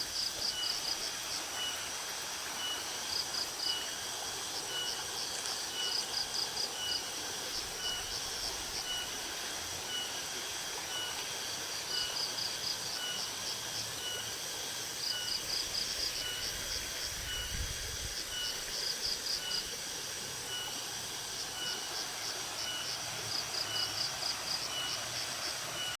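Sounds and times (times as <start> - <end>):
flowing river water: 0.0 - 26.0
insects chirping: 0.0 - 26.0.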